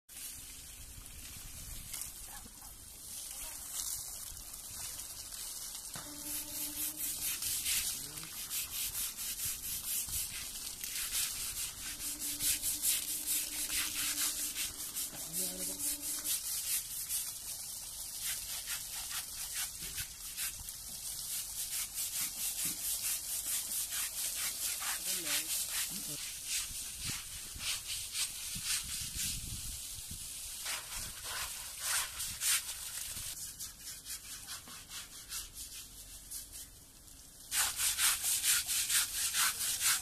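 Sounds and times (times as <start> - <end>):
scrubber rubbing wet skin: 5.6 - 29.4, 30.6 - 36.7, 37.5 - 40.0.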